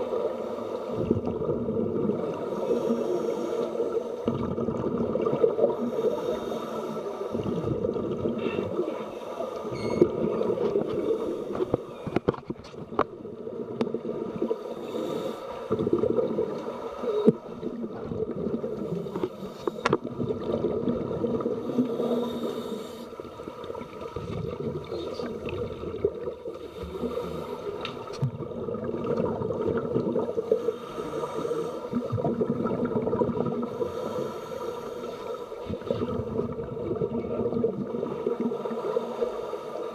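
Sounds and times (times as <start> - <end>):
bubbling of exhaled air: 0.9 - 3.0, 3.7 - 9.0, 12.9 - 38.8.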